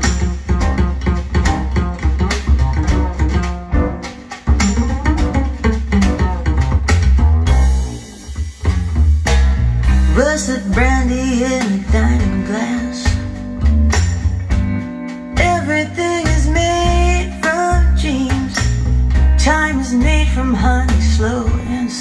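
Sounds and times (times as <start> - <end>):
deep bass line: 0.0 - 22.0
plucked guitar: 0.0 - 22.0
slow blues-jazz song on speakers: 0.0 - 22.0.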